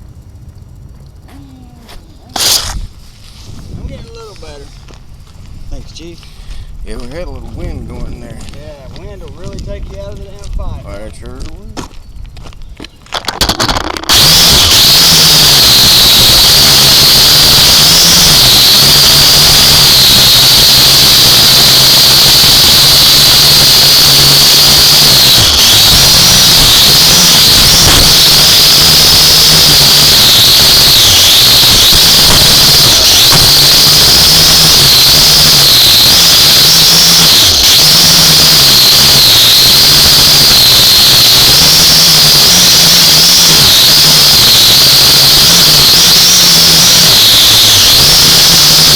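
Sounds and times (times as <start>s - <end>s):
drone motors and propellers: 0.0s - 48.9s.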